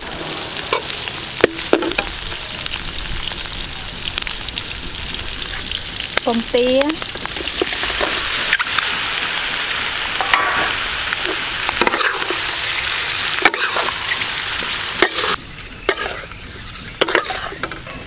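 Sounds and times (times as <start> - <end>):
oil sizzling in a wok: 0.0 - 16.9.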